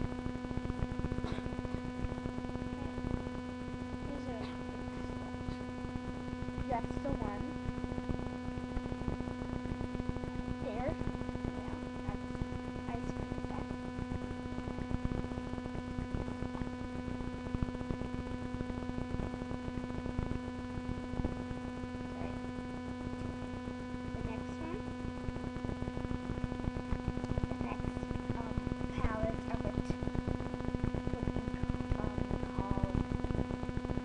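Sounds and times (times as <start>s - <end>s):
crackling noise: 0.0s - 34.0s
electrical hum: 0.0s - 34.0s.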